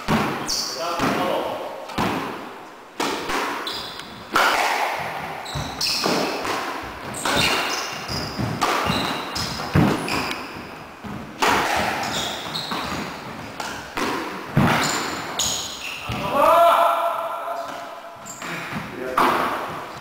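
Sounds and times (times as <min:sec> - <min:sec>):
shoes squeaking on hardwood floor: 0:00.0 - 0:01.4, 0:03.0 - 0:16.4, 0:17.6 - 0:20.0
squash ball hitting racquets and walls: 0:00.0 - 0:20.0.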